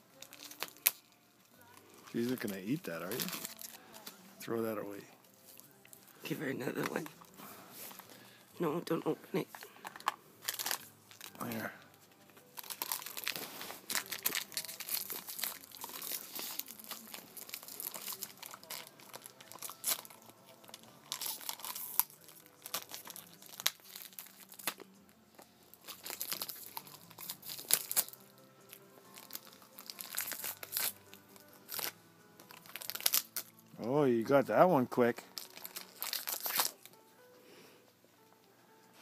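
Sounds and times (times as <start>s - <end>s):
plastic wrapper crinkling and tearing: 0.0s - 4.2s, 4.8s - 8.2s, 8.8s - 34.0s, 35.2s - 37.0s.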